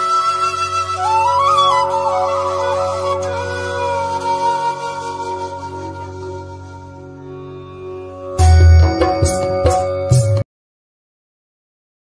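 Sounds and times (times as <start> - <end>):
instrumental background music: 0.0 - 10.4.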